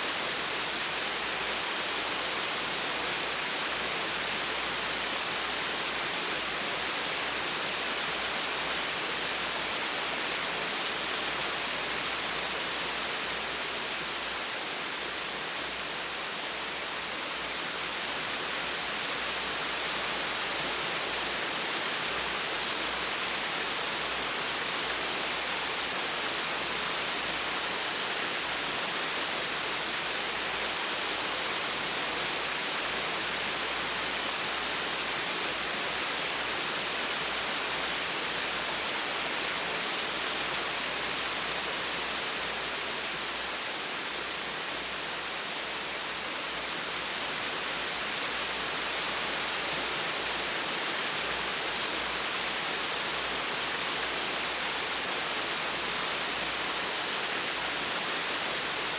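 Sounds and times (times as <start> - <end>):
waterfall rushing and splashing: 0.0 - 58.9.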